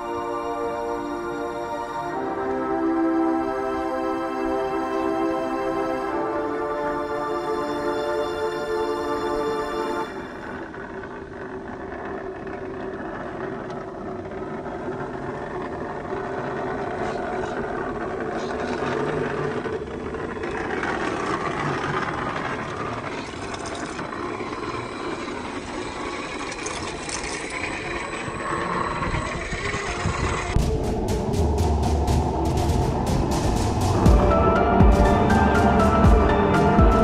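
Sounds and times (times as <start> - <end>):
electric motors whirring: 0.0 - 36.8.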